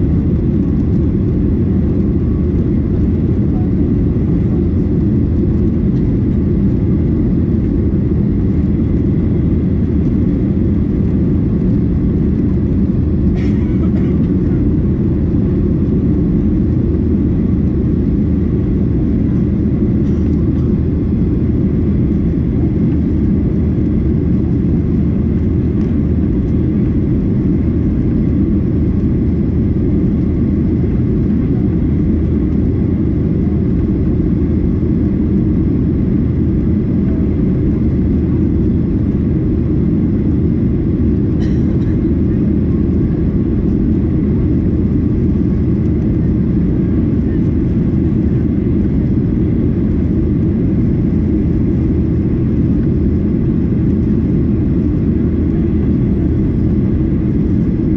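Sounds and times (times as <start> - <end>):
airplane cabin noise: 0.0 - 57.9
jet engines humming: 0.0 - 57.9.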